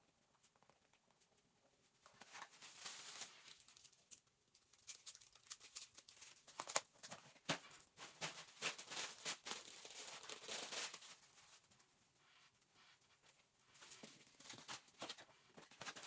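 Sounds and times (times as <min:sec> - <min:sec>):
crinkly material rustling: 0:00.3 - 0:16.0.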